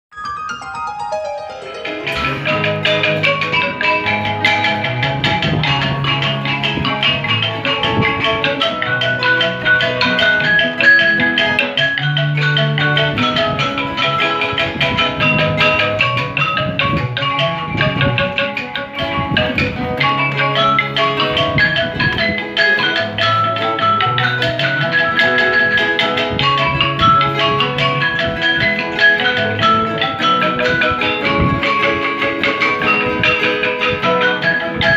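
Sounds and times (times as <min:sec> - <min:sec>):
traditional band playing: 0:00.5 - 0:34.9.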